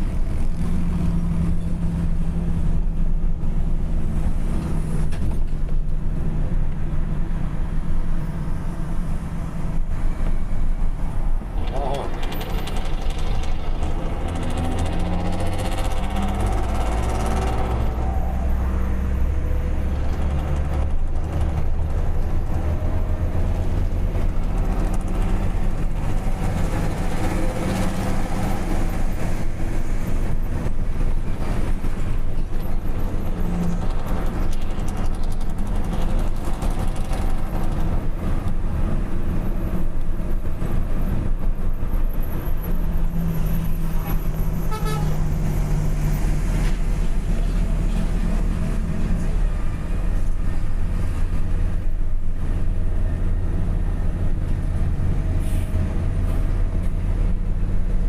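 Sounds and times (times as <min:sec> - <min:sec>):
loud engine with deep exhaust: 0:00.0 - 0:58.0.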